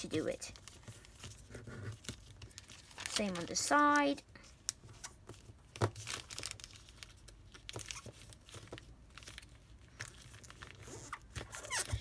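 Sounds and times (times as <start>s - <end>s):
paper rustling and crinkling: 0.0s - 4.2s, 4.8s - 12.0s.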